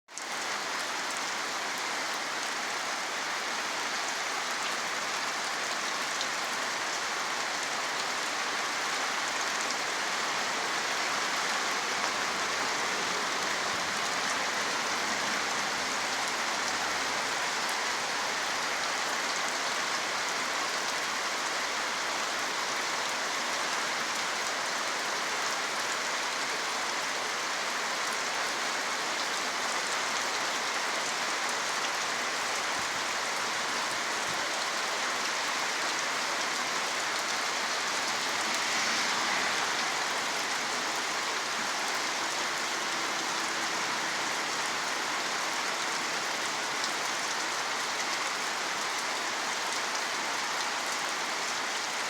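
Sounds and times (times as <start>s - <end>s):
steady rain falling: 0.1s - 52.0s.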